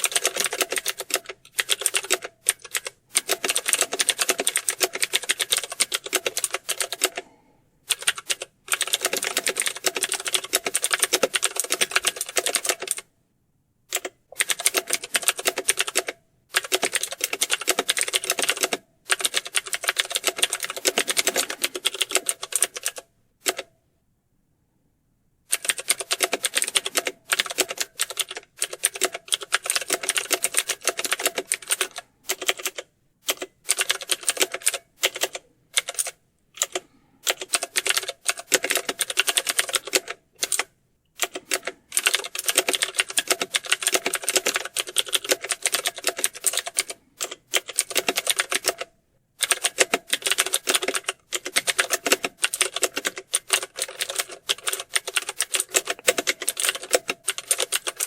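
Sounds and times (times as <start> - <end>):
fast typing on keyboard: 0.0 - 13.0, 13.9 - 23.7, 25.5 - 58.0.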